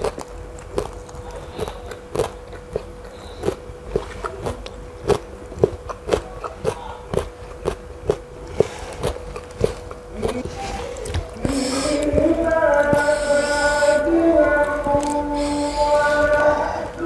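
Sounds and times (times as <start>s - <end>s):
close-up wet chewing: 0.0s - 17.0s
faint steady hum: 0.0s - 17.0s.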